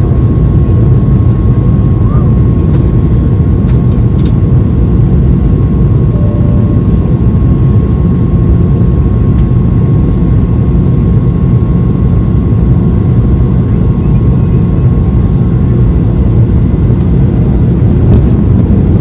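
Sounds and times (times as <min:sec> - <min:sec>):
aircraft cabin roar: 0:00.0 - 0:19.0
thin steady whine: 0:00.0 - 0:19.0.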